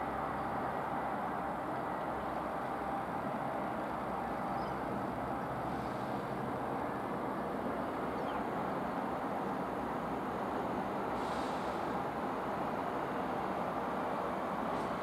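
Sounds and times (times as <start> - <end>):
electric train running on rails: 0.0 - 15.0.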